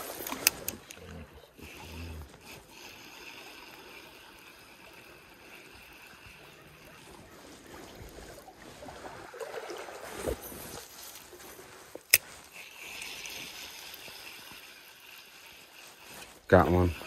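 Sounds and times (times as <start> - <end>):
fishing reel whirring: 0.0 - 8.8, 9.7 - 17.0
stream running over riffles: 0.0 - 17.0.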